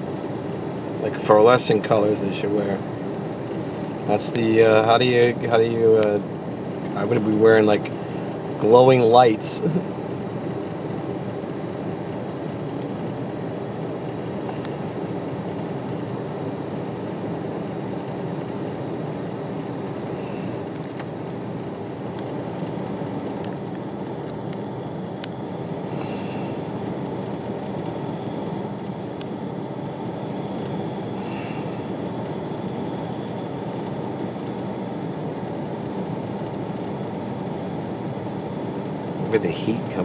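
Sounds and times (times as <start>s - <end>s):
road traffic hum: 0.0s - 40.0s.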